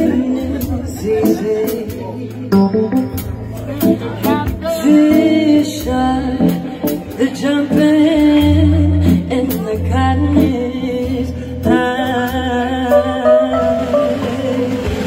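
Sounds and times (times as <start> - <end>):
woman singing into a microphone: 0.0 - 2.5, 3.8 - 15.0
band with keyboard and drums: 0.0 - 15.0.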